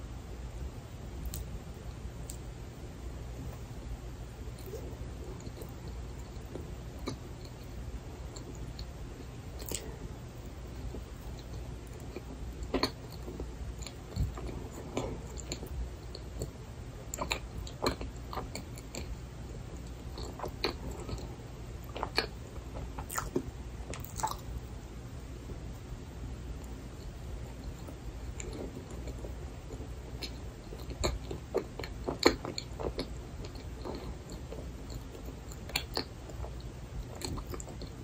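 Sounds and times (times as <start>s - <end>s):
close chewing mouth sounds: 4.4s - 10.1s, 10.7s - 24.6s, 26.6s - 38.0s.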